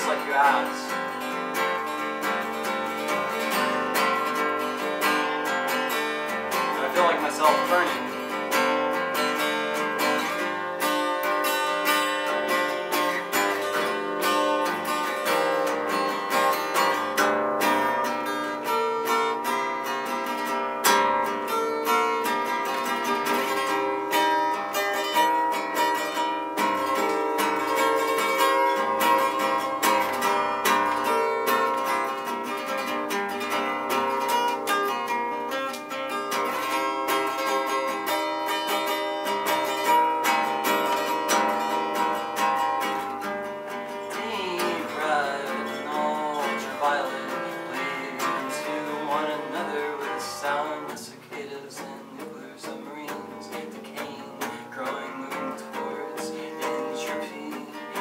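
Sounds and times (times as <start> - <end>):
guitar picked notes: 0.0 - 58.0.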